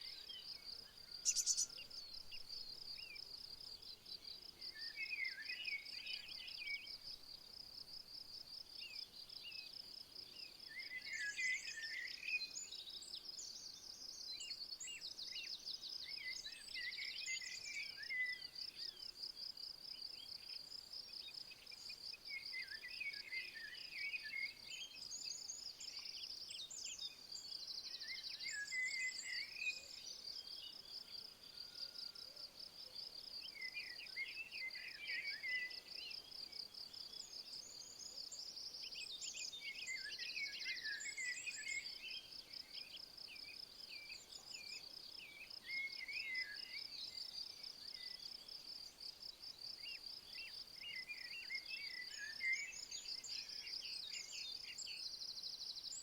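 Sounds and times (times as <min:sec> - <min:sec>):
songbird chirping: 0:00.0 - 0:56.0.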